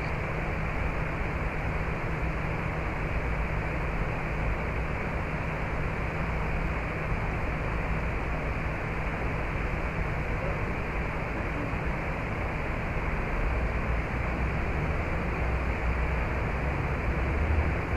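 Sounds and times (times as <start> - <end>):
steady rushing noise: 0.0 - 17.9.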